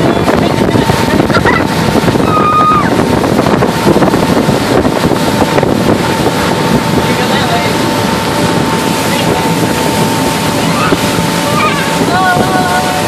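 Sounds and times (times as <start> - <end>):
motorboat engine running: 0.0 - 13.0
water rushing: 0.0 - 13.0
wind buffeting microphone: 0.0 - 13.0.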